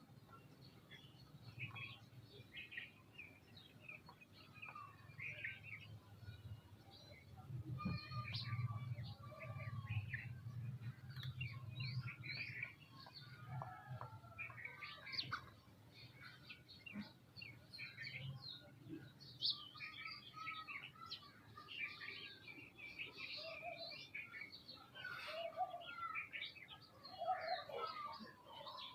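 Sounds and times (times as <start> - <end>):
flock of birds chirping: 0.0 - 28.9.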